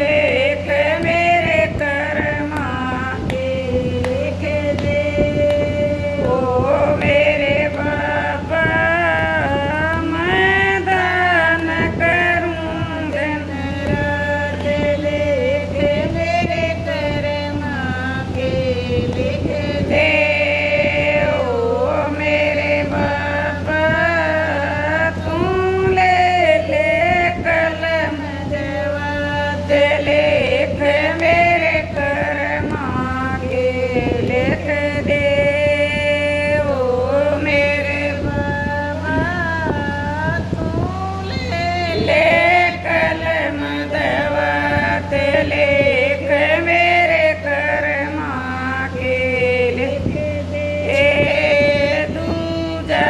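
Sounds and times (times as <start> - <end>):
steady low hum: 0.0 - 53.0
woman singing unaccompanied: 0.0 - 53.0.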